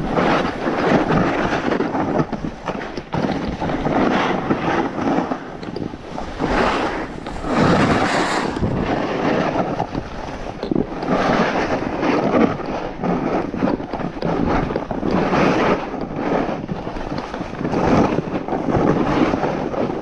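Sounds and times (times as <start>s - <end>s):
snowboard scraping across snow: 0.0s - 20.0s
wind on microphone: 0.0s - 20.0s.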